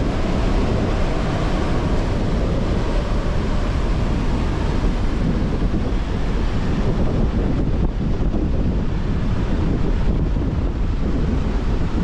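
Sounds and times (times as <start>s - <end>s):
surf breaking on a beach: 0.0s - 12.0s
wind buffeting the microphone: 0.0s - 12.0s.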